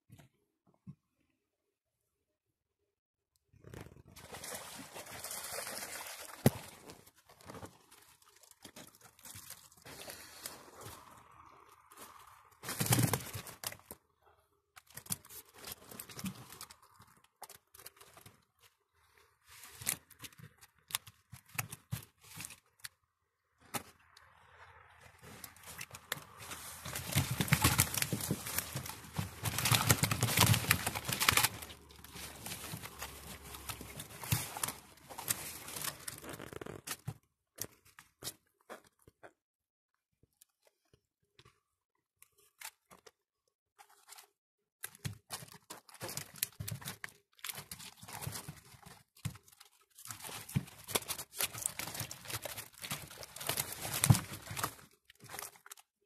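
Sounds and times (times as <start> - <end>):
rustling handling noise: 3.6 - 23.1, 25.0 - 39.1, 43.8 - 56.0.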